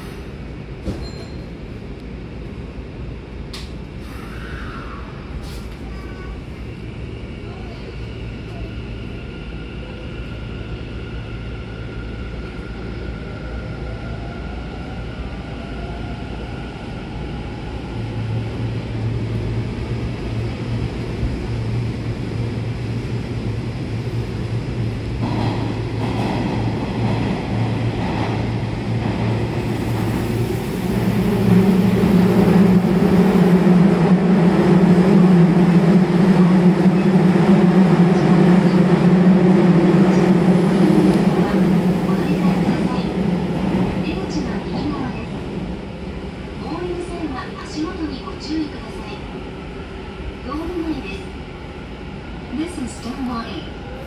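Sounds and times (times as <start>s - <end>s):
deep train rumble: 0.0s - 54.0s
train motors and wheels humming: 0.0s - 54.0s.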